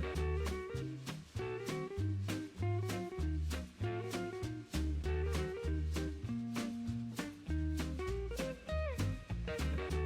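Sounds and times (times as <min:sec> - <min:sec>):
upbeat swing music: 0:00.0 - 0:10.0.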